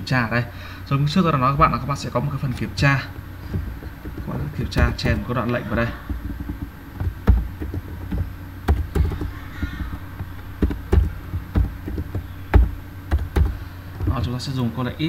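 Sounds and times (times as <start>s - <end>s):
low steady hum: 0.0s - 15.0s
keyboard typing: 2.4s - 14.5s.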